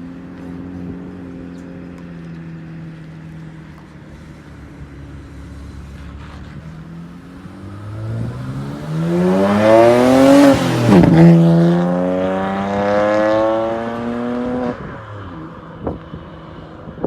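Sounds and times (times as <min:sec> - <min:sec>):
car accelerating: 0:00.0 - 0:16.8.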